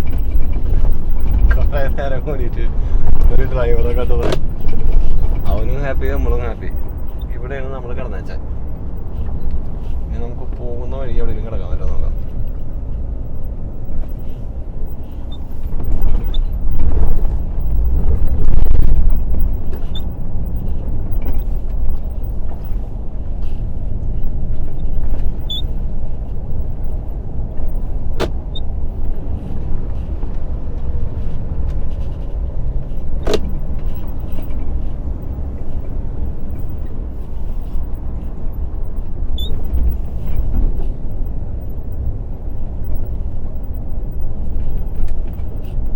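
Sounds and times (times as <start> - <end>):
truck engine and road rumble: 0.0 - 45.9.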